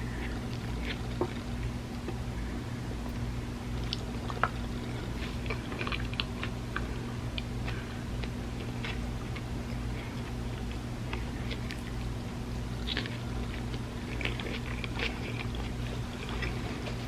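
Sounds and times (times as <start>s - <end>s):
chewing food: 0.0s - 17.0s
low steady hum: 0.0s - 17.0s.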